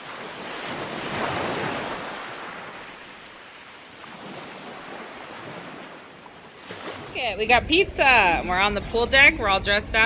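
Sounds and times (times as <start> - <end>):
sea water rushing: 0.0 - 10.0.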